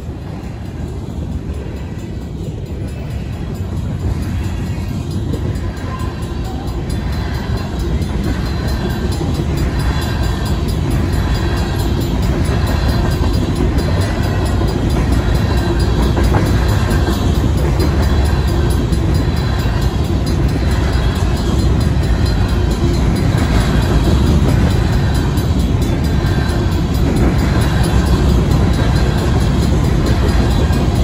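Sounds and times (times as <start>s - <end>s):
freight cars rumbling on rails: 0.0s - 31.0s.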